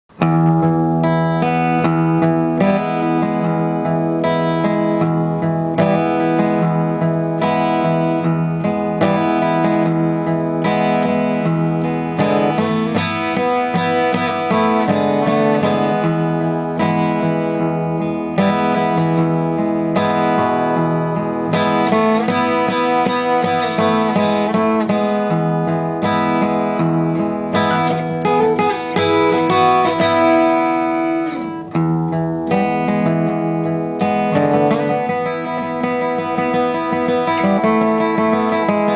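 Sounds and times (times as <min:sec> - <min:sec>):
acoustic guitar chords: 0:00.1 - 0:38.9.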